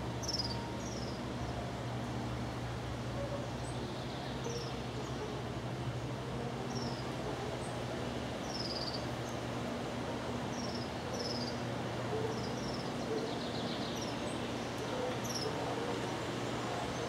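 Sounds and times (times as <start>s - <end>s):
steady hiss and low hum: 0.0s - 17.0s.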